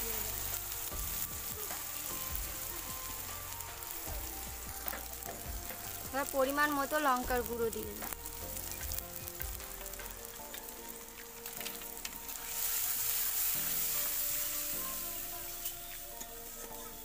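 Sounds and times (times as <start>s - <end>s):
masala sizzling in hot oil: 0.0s - 17.0s.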